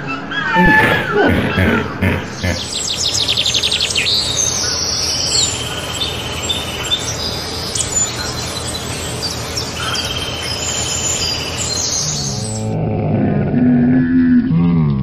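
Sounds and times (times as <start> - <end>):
songbirds trilling: 0.0 - 12.8.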